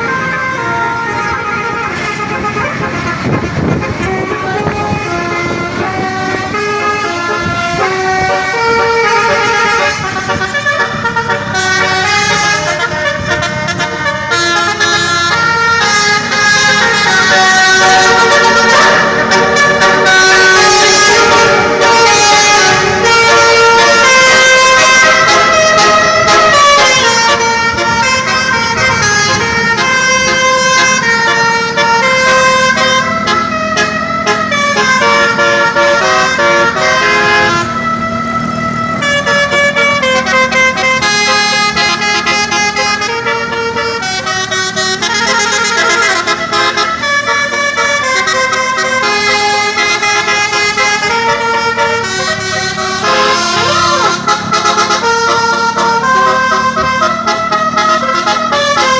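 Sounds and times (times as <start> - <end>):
musical air horn melody: 0.0 - 38.2, 38.9 - 58.9.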